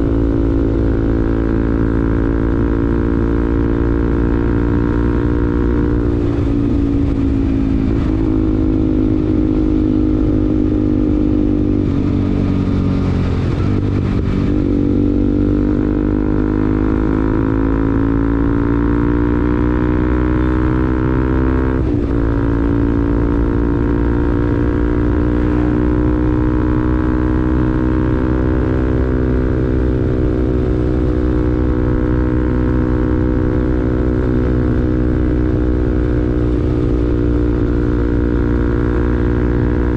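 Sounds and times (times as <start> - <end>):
motorcycle engine with bassy exhaust: 0.0 - 39.9.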